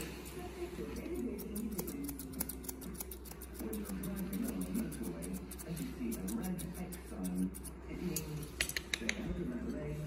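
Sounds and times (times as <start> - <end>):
scissors snipping hair: 1.0 - 9.2.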